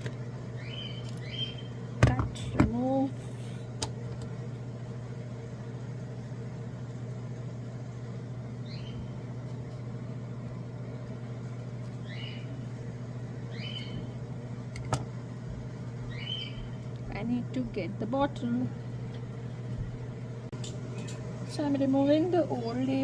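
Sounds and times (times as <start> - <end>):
appliance humming: 0.0 - 23.0.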